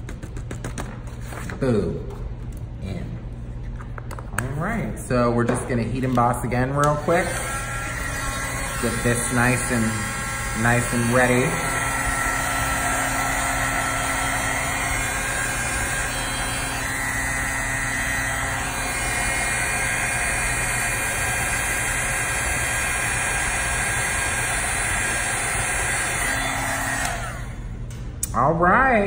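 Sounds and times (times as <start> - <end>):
heat tool fan blowing: 0.0 - 29.0.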